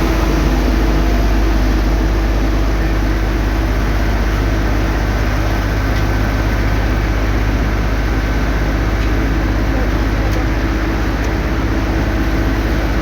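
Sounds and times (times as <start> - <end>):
vehicle engine running loud: 0.0 - 13.0.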